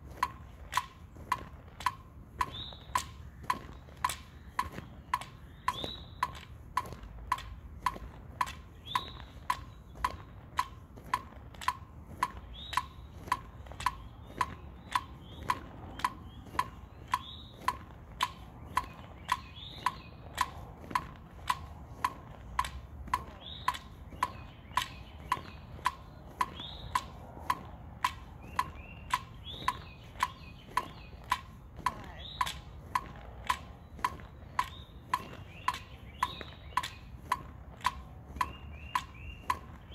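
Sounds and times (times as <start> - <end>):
birds chirping: 0.0 - 39.9
metronome clicking: 0.1 - 39.9.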